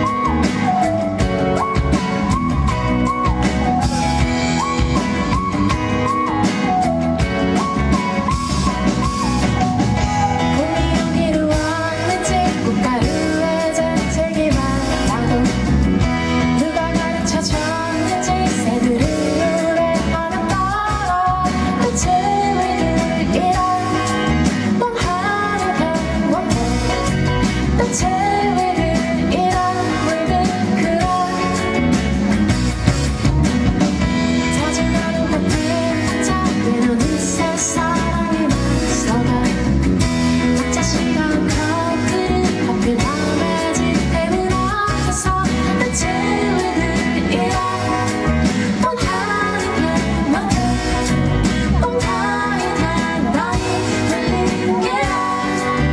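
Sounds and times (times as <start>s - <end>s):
instrumental accompaniment: 0.0s - 55.9s
woman singing: 7.6s - 32.3s, 34.4s - 55.9s.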